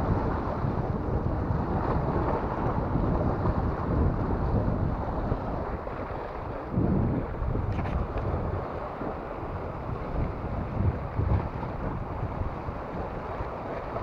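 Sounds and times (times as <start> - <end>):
waves washing against rocks: 0.0 - 14.0
wind buffeting microphone: 0.0 - 14.0.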